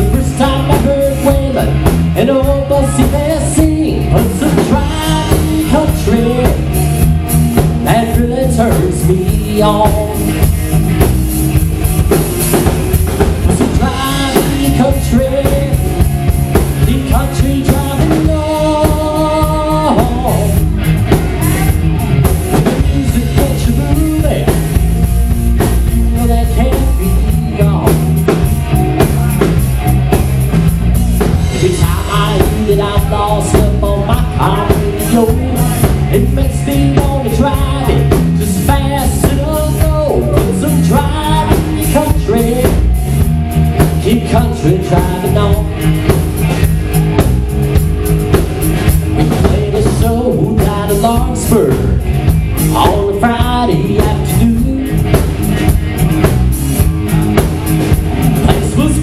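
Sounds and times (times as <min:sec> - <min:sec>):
country-rock band playing: 0:00.0 - 0:59.0
electric guitar: 0:00.0 - 0:59.0.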